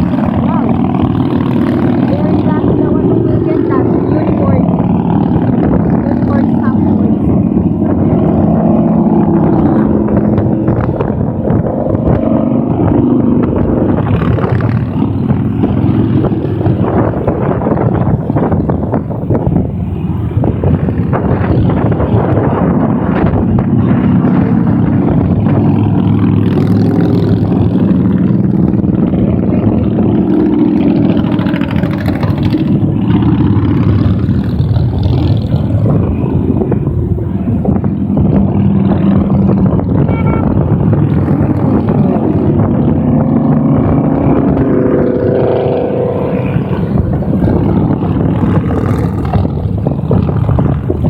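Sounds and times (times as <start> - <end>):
motorcycles riding past: 0.0 - 51.0.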